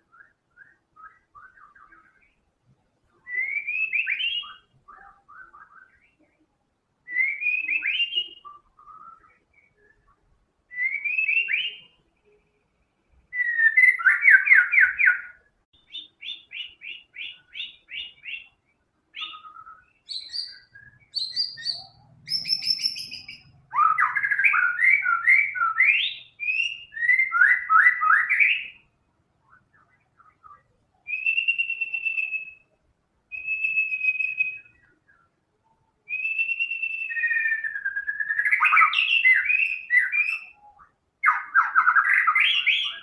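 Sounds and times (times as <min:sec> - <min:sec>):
bird singing whistled phrases: 0:00.0 - 0:02.4, 0:03.2 - 0:06.3, 0:07.1 - 0:12.0, 0:13.3 - 0:43.0.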